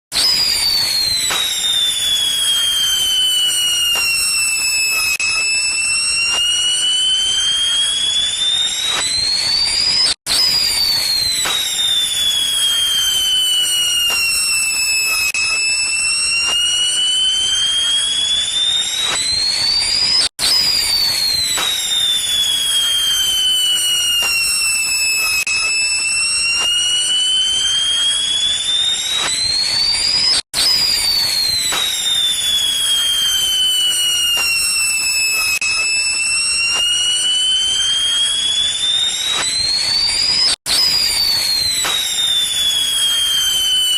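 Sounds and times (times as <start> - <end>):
high gliding whistle tone: 0.1 - 43.9.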